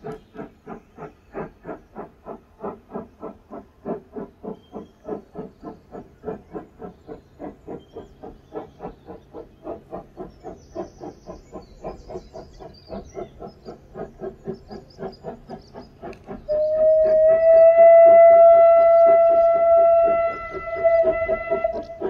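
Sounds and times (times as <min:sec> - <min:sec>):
steam locomotive chuffing: 0:00.0 - 0:22.0.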